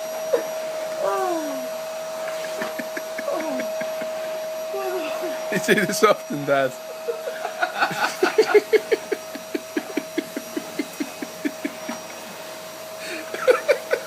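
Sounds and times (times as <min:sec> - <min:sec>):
vacuum cleaner whining: 0:00.0 - 0:14.0.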